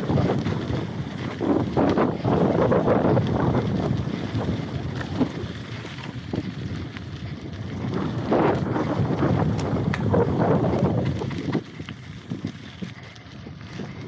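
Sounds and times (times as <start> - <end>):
bike rattles and knocks: 0.0 - 14.0
bike tyres rolling on gravel: 0.0 - 14.0
wind buffeting microphone: 0.0 - 14.0.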